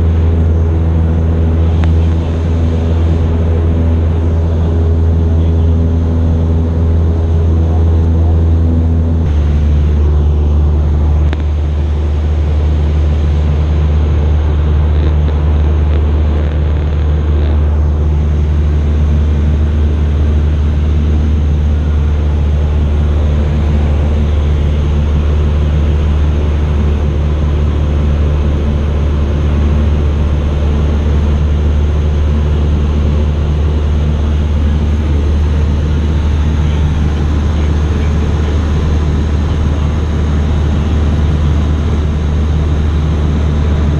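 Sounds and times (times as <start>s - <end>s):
aircraft engine droning: 0.0s - 43.9s.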